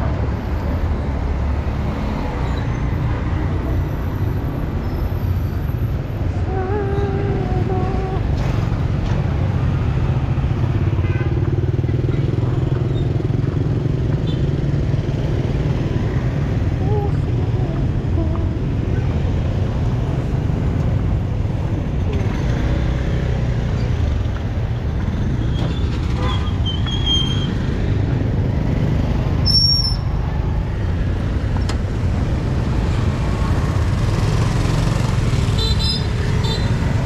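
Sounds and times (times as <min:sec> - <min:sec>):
passing motor vehicles rumbling: 0:00.0 - 0:37.0.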